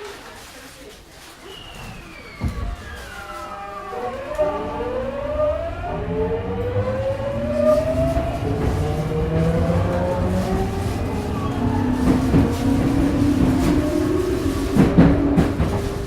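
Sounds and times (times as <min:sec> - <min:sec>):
train inverter tones sliding in pitch: 0:01.9 - 0:16.0
rumble of train motors and wheels: 0:02.4 - 0:16.0.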